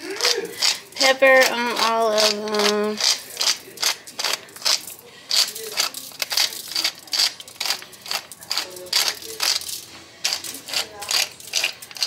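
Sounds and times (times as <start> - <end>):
pepper mill grinding: 0.0 - 12.0.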